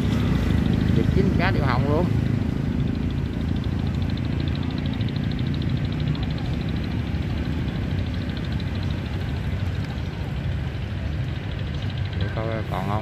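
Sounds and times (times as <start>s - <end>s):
engine idling: 0.0s - 13.0s
fast even ticking: 0.0s - 13.0s.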